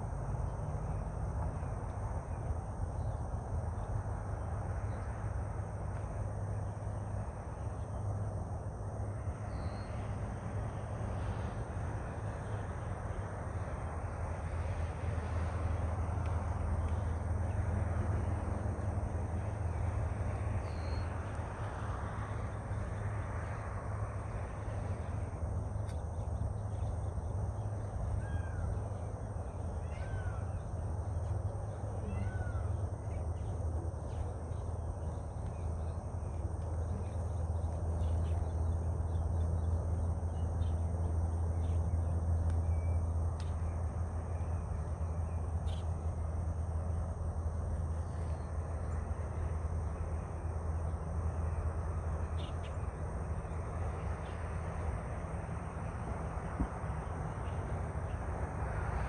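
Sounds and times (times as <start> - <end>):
steady low rumble: 0.0 - 58.5.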